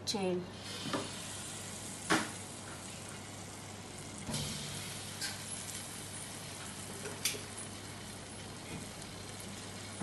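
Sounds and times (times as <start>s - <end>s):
dough sizzling in hot oil: 0.5s - 10.0s.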